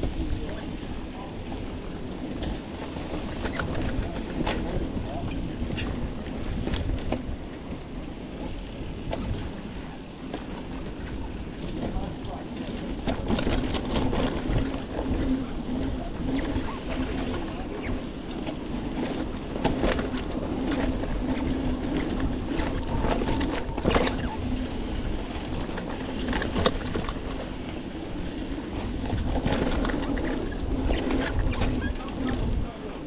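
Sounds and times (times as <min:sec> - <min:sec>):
bike frame clacks and rattles: 0:00.0 - 0:33.0
bike tyre rumble on dirt: 0:00.0 - 0:33.0.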